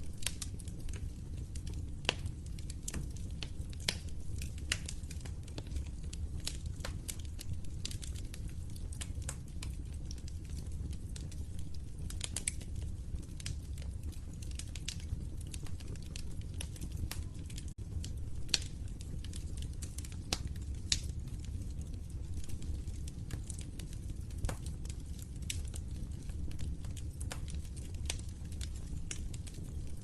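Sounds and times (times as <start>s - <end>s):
low rumble of flames: 0.0s - 30.0s
wood fire pops and snaps: 0.0s - 30.0s.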